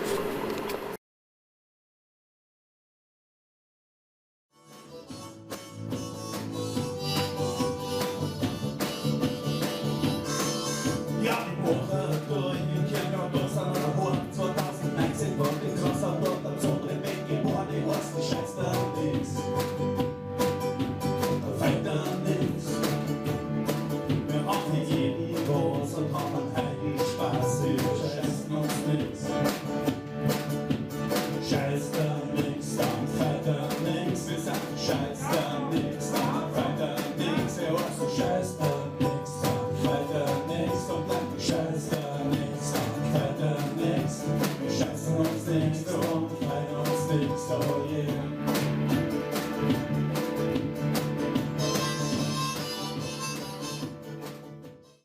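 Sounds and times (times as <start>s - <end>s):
plucked string instrumental music: 4.5s - 55.0s.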